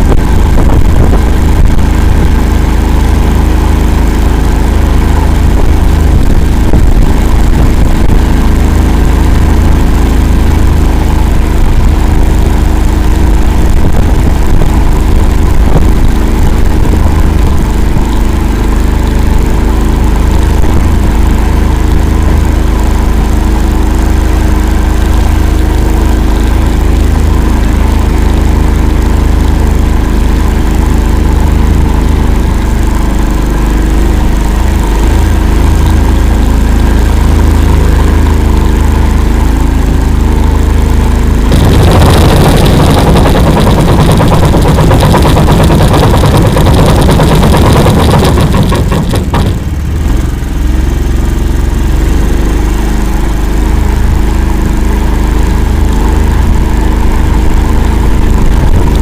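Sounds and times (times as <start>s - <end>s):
rough rush of noise: 0.0s - 52.0s
vehicle engine running loudly: 0.0s - 59.0s.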